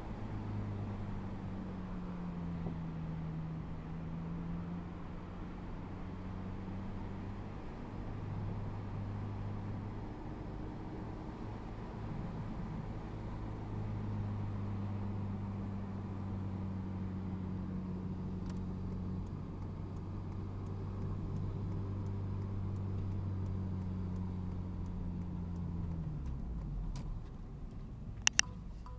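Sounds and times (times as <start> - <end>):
car engine drone: 0.0 - 28.9.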